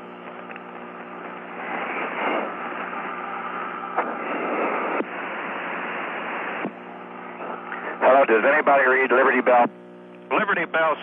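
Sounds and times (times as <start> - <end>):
faint steady hum: 0.0 - 11.0
radio hiss and static: 0.0 - 11.0.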